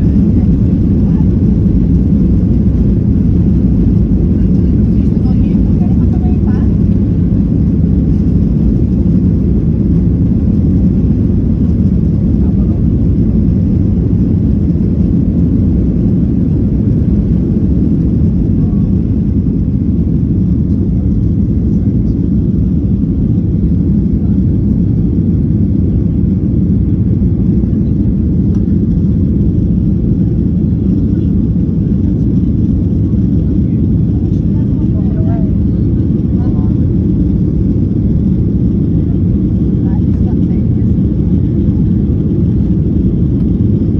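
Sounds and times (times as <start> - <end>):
jet engines rumbling: 0.0 - 43.9.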